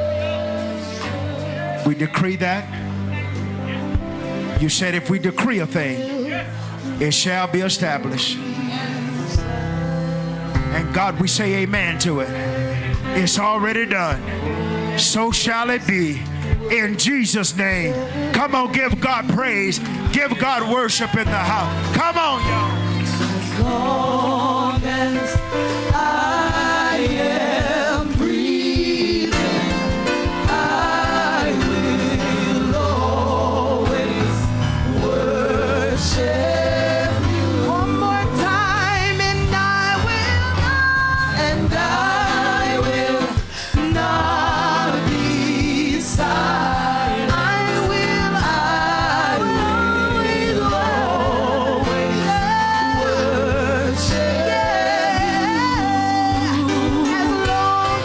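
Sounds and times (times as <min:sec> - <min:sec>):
band with bass and drums: 0:00.0 - 0:04.9, 0:09.3 - 0:58.0
gospel singing voices: 0:00.0 - 0:58.0.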